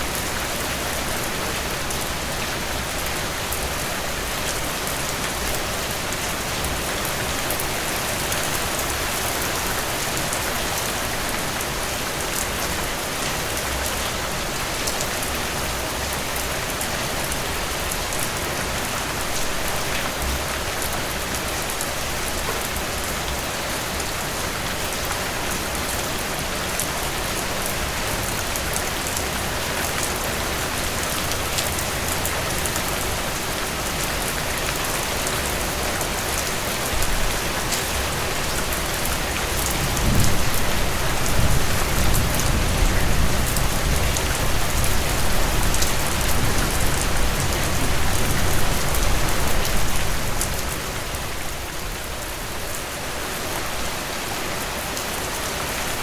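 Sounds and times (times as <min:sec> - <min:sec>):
raindrops pattering on surface: 0:00.1 - 0:53.2.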